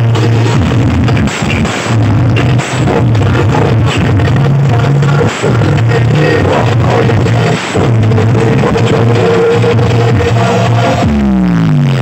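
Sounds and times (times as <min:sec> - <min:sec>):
loud bass-heavy music on speakers: 0:00.0 - 0:12.0.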